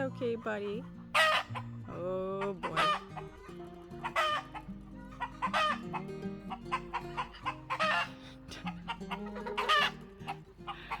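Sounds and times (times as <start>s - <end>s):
background music: 0.0s - 11.0s
hens squawking: 0.0s - 11.0s.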